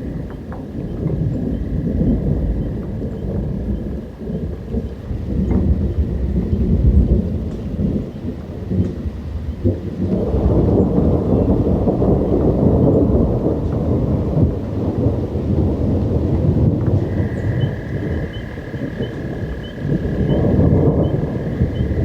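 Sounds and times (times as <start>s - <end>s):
rain: 0.0s - 22.0s
thunder rumbling: 0.0s - 22.0s.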